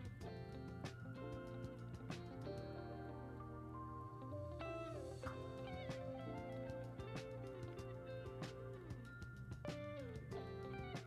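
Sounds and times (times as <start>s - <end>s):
held instrumental notes: 0.0s - 11.0s.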